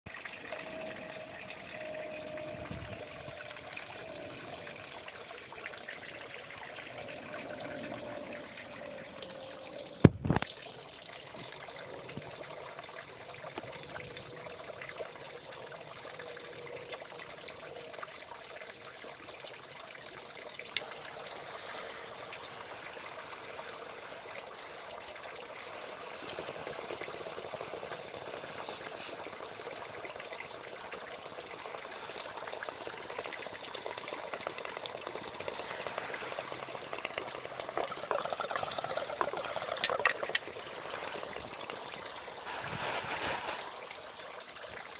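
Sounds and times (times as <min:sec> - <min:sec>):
water trickling: 0:00.1 - 0:44.9.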